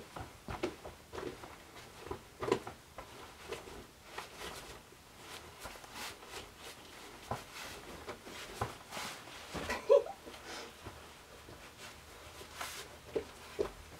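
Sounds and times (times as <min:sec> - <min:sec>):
costume rustling: 0:00.0 - 0:13.9.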